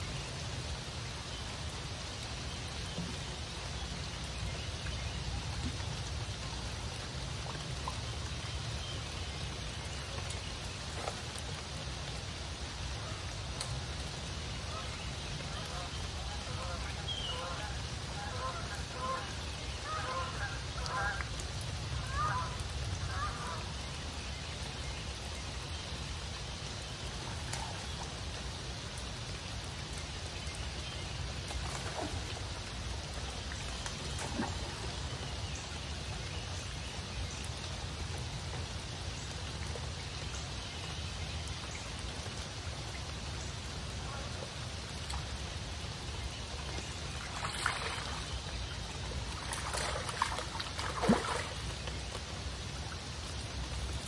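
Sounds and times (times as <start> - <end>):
rain falling on river: 0.0 - 54.0.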